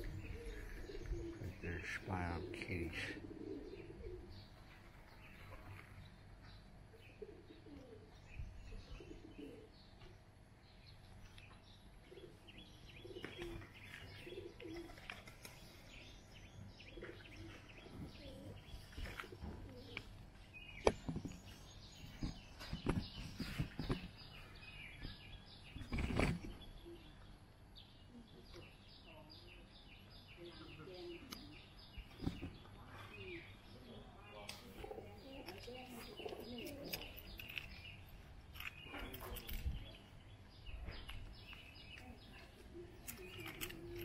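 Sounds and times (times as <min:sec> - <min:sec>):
doves cooing: 0:00.0 - 0:06.3, 0:06.9 - 0:10.0, 0:12.0 - 0:27.3, 0:30.4 - 0:38.0, 0:40.9 - 0:44.0
small birds chirping: 0:00.0 - 0:44.0.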